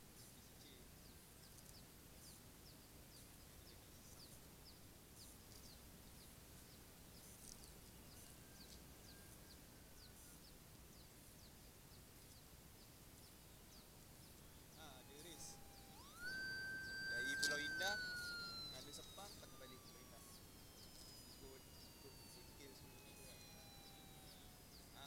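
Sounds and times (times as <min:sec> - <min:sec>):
low steady hiss: 0:00.0 - 0:25.0
faint high bird chirps: 0:00.1 - 0:25.0.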